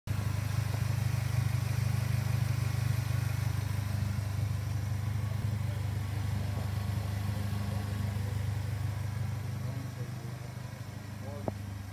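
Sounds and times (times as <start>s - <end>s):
car engine idling: 0.1s - 11.9s.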